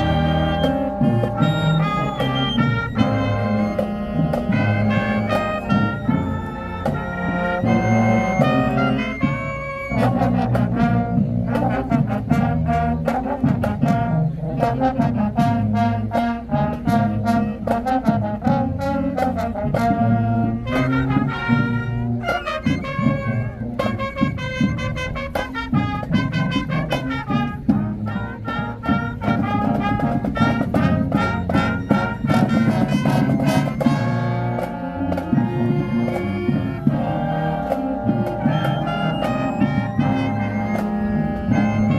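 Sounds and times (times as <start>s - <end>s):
brass playing the tune: 0.0s - 41.9s
marching band playing: 0.0s - 41.9s
steady drum beat: 0.0s - 41.9s.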